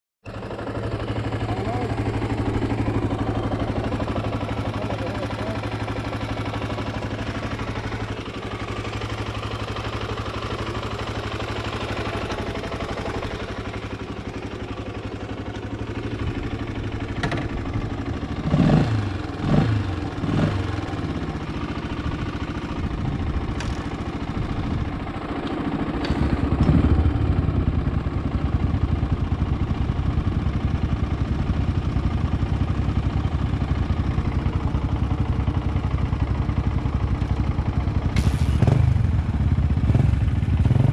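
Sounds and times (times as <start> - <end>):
vehicle engine running: 0.2 - 40.9.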